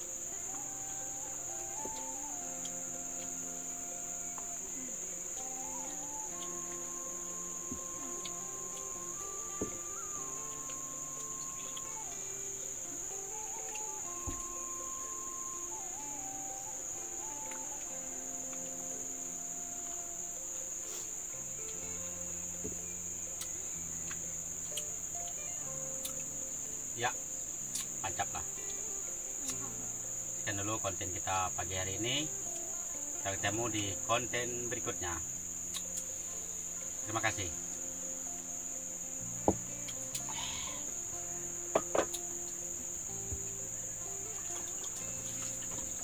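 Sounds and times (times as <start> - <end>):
insect chorus drone: 0.0 - 46.0.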